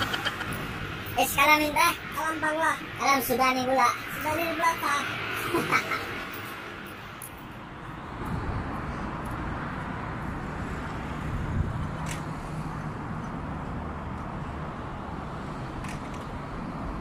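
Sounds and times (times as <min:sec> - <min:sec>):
street background rumble: 0:00.0 - 0:17.0.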